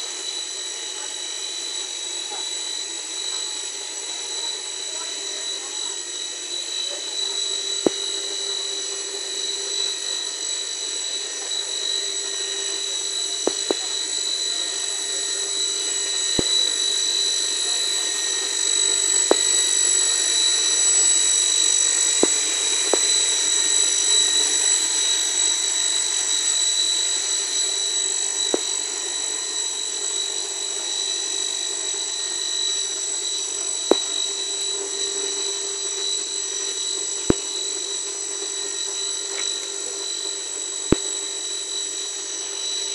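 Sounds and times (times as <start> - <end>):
high-pitched machine whine: 0.0 - 42.9
machine hiss with low hum: 0.0 - 42.9.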